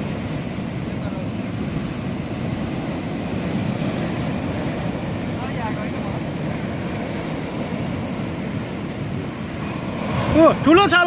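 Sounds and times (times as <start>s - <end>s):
ocean surf washing in: 0.0s - 11.0s
wind buffeting microphone: 0.0s - 11.0s.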